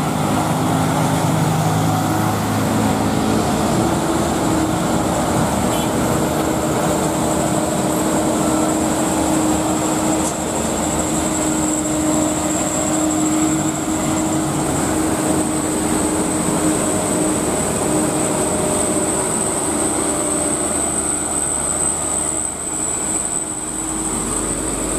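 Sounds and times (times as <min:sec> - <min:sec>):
diesel trucks engine drone: 0:00.0 - 0:24.9
steady high-pitched tone: 0:00.1 - 0:24.9.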